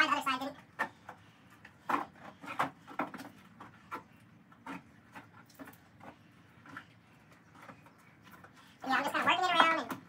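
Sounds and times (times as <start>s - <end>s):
light knocks and scrapes: 0.7s - 8.8s.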